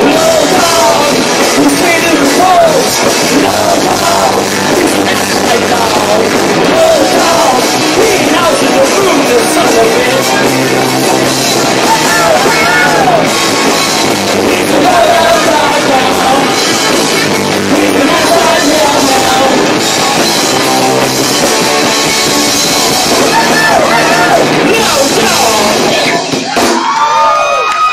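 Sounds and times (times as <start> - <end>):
person singing: 0.0 - 13.4, 14.3 - 26.3
distorted punk rock band: 0.0 - 27.9.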